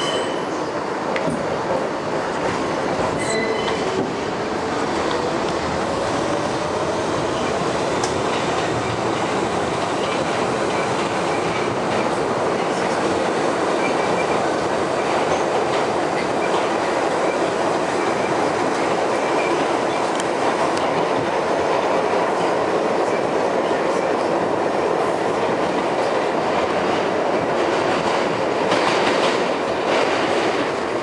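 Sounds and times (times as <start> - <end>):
subway train wheels rumbling: 0.0 - 31.0.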